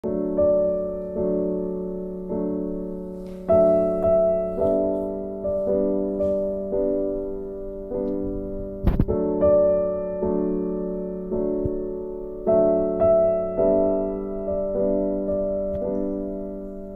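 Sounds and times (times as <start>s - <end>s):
soft piano music: 0.0s - 16.9s.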